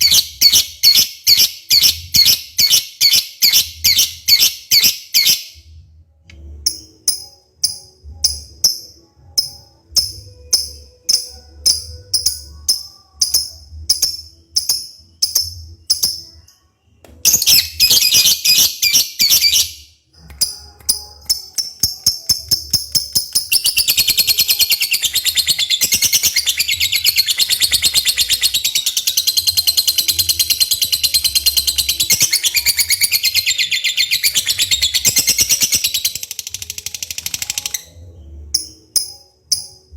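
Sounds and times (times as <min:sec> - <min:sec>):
lovebird chirping and trilling: 0:00.0 - 0:05.6, 0:06.7 - 0:16.5, 0:17.2 - 0:39.9.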